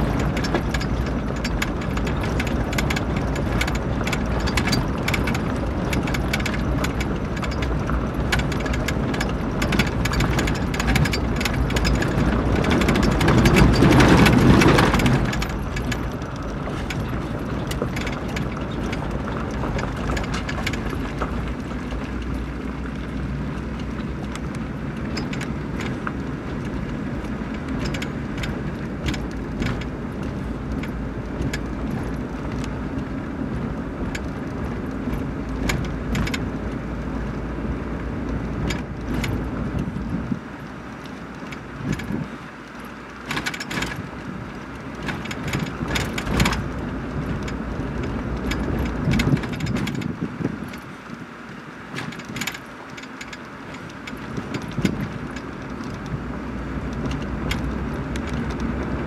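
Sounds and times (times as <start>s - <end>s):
car engine and tyres rumbling: 0.0s - 59.0s
light rattles and clicks: 0.0s - 59.0s.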